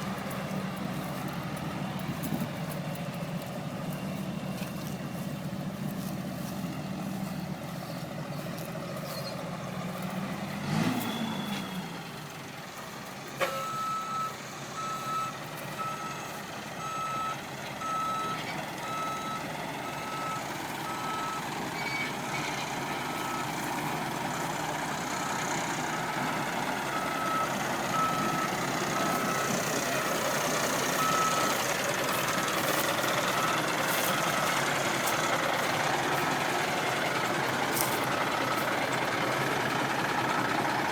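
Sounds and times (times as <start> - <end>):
truck backup alarm beeping: 0.0 - 40.9
truck engine running: 0.0 - 40.9.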